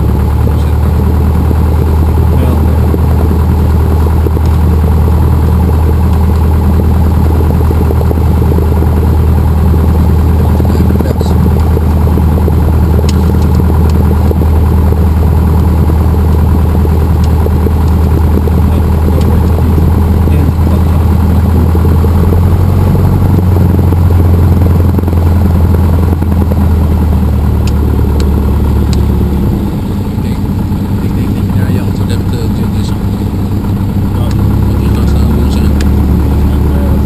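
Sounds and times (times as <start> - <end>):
airplane engine and propeller drone: 0.0 - 37.0.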